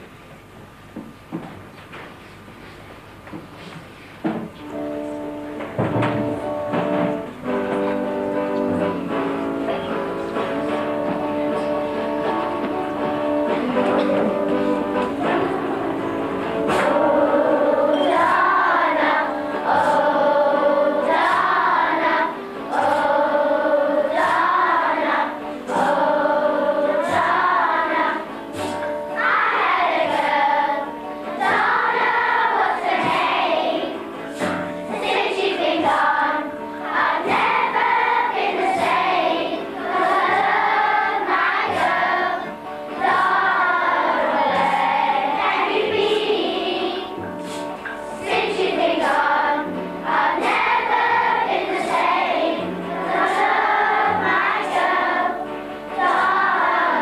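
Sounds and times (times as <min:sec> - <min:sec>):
children singing together: 0:05.7 - 0:57.0.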